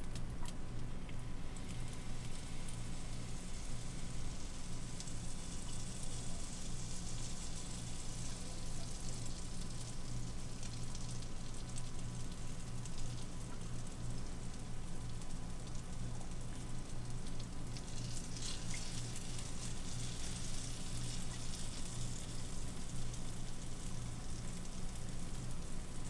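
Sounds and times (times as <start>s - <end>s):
steady low hum: 0.0s - 26.0s
butter sizzling in a frying pan: 1.3s - 26.0s.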